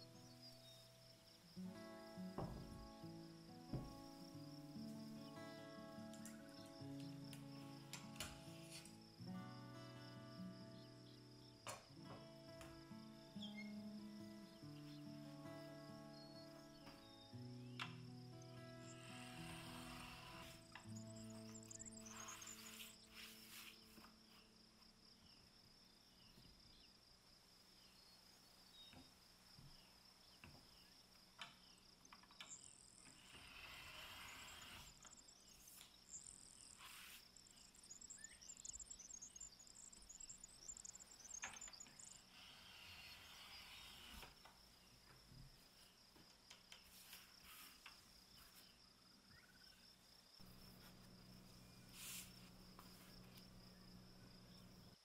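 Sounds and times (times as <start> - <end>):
insect chirring: 0.0 - 55.0.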